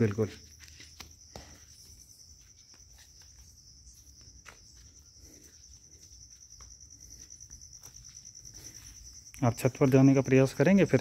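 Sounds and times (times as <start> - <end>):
insect chirring trill: 0.0 - 11.0.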